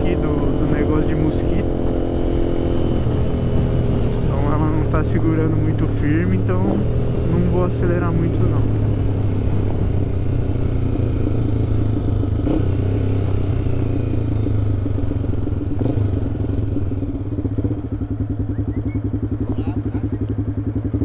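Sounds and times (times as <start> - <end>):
exhaust beats: 0.0 - 21.0
motorcycle engine cruising: 0.0 - 21.0.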